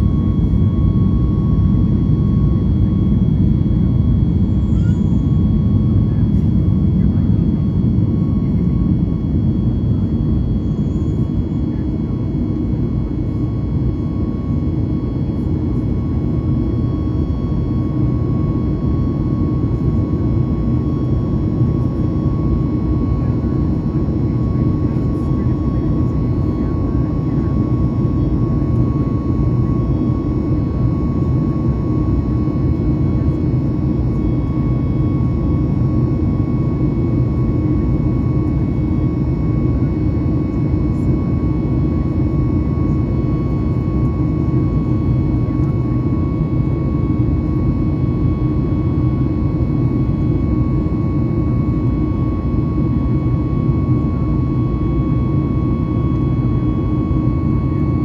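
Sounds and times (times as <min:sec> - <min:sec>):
deep rumble of airflow and engines: 0:00.0 - 0:58.0
thin steady whine: 0:00.0 - 0:58.0.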